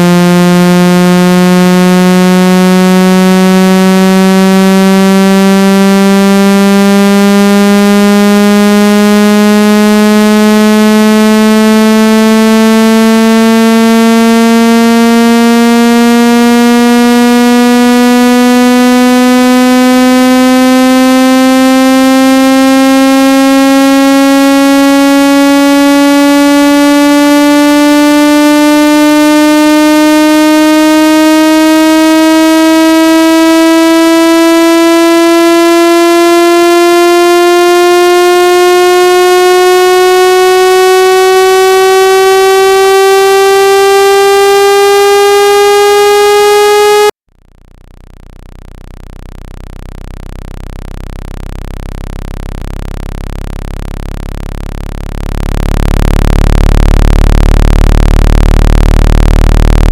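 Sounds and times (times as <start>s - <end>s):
buzzy tone gliding upward: 0.0s - 47.2s, 50.3s - 59.9s
low deep tone: 0.0s - 59.9s.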